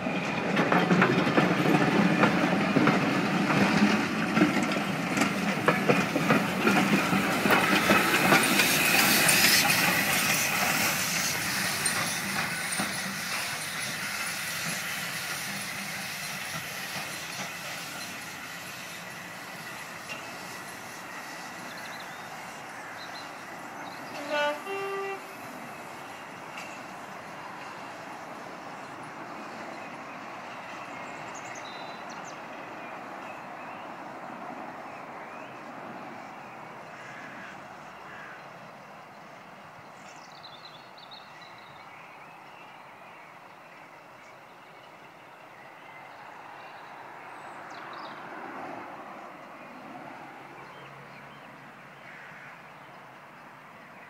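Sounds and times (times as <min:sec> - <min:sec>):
distant steam train rumble: 0:00.0 - 0:54.0.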